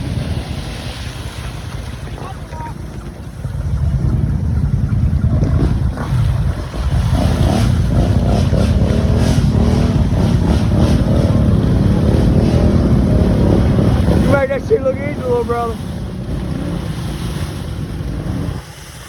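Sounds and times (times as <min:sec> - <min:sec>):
off-road vehicle engine running: 0:00.0 - 0:18.9
wind noise on microphone: 0:00.0 - 0:19.0.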